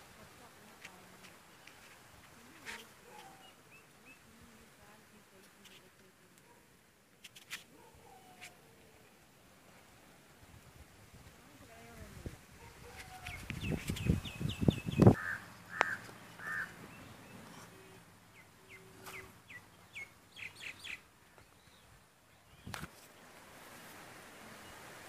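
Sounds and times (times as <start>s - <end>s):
small birds chirping: 0.6s - 9.2s, 11.4s - 23.4s.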